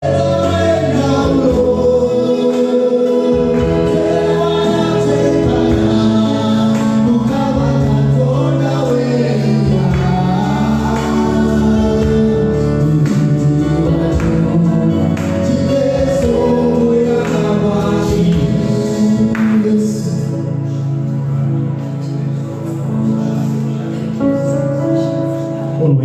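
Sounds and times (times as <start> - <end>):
choir and congregation singing: 0.0 - 26.0
instrumental accompaniment: 0.0 - 26.0.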